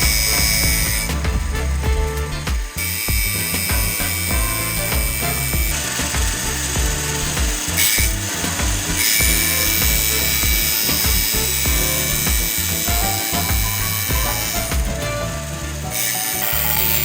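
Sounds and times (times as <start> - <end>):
background music with beat: 0.0 - 17.0
tool rubbing and scraping: 0.0 - 17.0.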